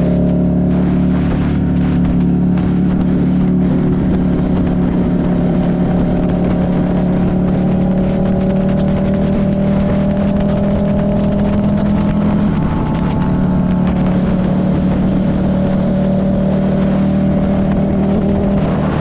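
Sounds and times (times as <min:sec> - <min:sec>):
motorcycle engine cruising: 0:00.0 - 0:19.0
road and wind noise: 0:00.0 - 0:19.0.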